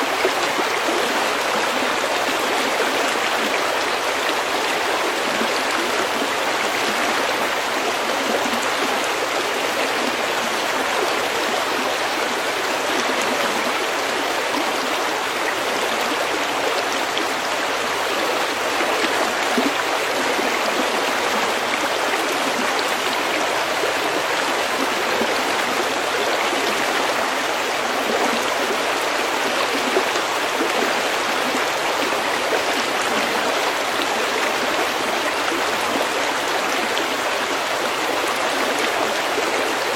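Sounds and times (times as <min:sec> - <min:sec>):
stream flowing over pebbles: 0:00.0 - 0:39.9.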